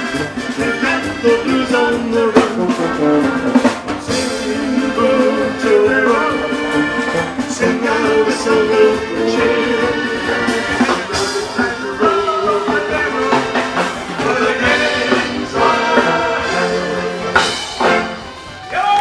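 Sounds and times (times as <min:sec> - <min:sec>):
brass instruments playing held notes: 0:00.0 - 0:19.0.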